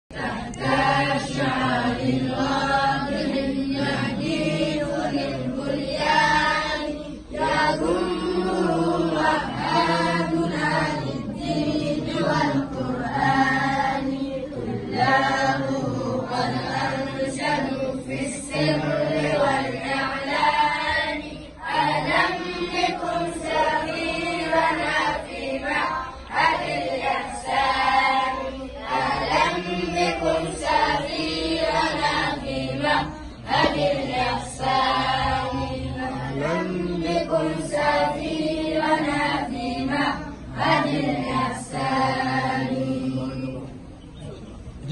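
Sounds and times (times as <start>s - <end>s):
children chanting in unison: 0.1s - 43.8s.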